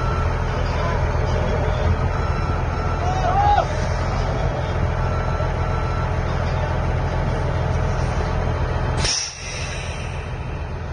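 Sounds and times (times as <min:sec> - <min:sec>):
diesel truck engine running: 0:00.0 - 0:10.9.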